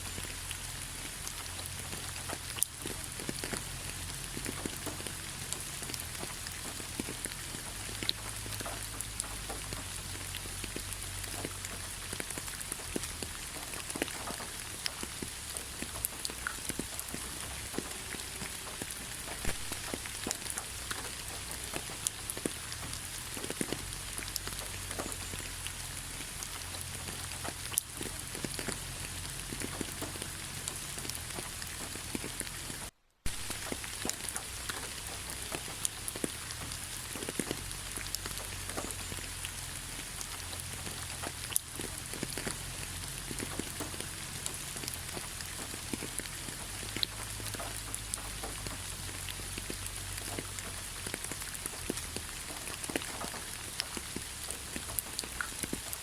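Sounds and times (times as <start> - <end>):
raindrops ticking: 0.0 - 56.0
steady rain falling: 0.0 - 56.0.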